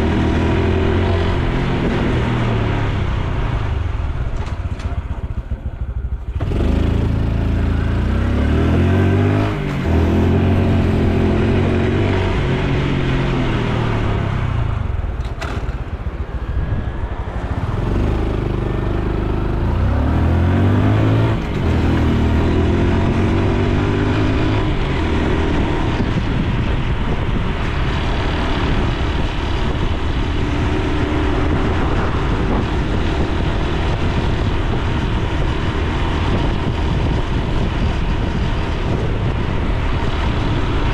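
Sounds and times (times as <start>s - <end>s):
motorcycle engine accelerating: 0.0s - 40.9s
road noise: 0.0s - 40.9s.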